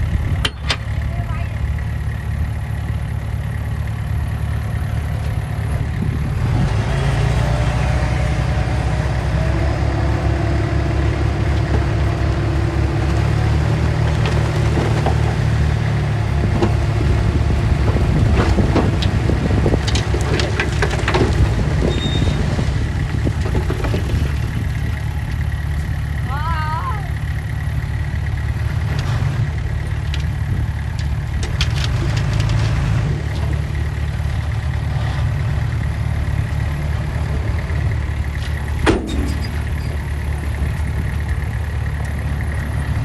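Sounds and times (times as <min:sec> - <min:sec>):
diesel engine of heavy machinery: 0:00.0 - 0:43.0.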